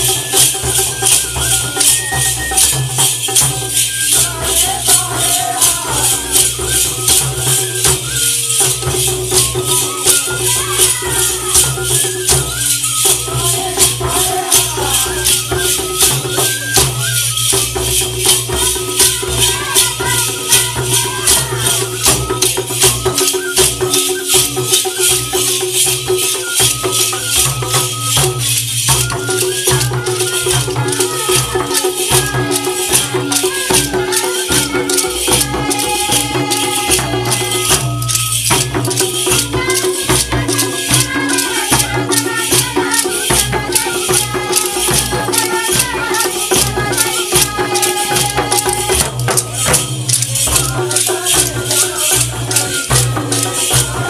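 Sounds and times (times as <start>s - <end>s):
barrel drums: 0.0s - 54.0s
quick even rattling beat: 0.0s - 54.0s
voices singing: 0.0s - 54.0s.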